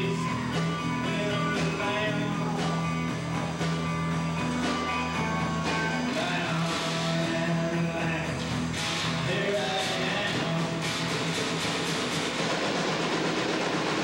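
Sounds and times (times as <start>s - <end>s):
electric guitars: 0.0s - 14.0s
steady drum beat: 0.0s - 14.0s.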